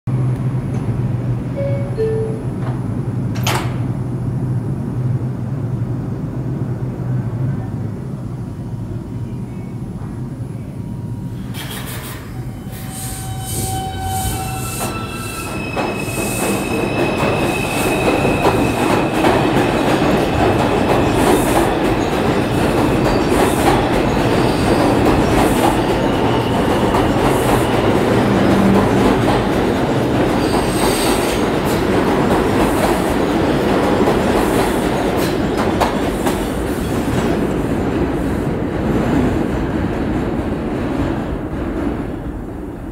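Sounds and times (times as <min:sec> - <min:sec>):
train wheel-and-rail noise: 0:00.1 - 0:42.9.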